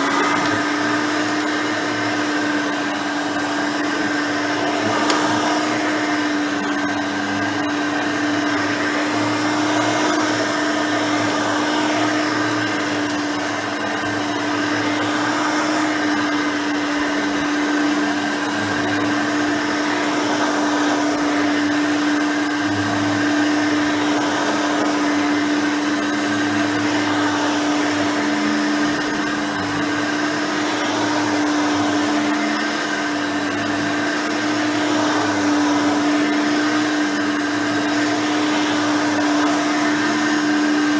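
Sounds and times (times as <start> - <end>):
upright vacuum running: 0.0 - 40.9.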